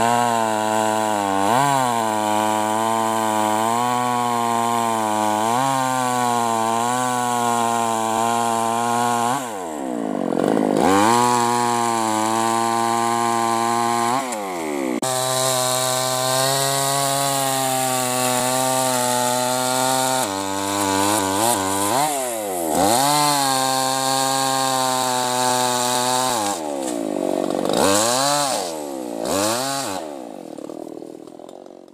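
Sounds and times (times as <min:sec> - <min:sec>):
chainsaw cutting wood: 0:00.0 - 0:31.9.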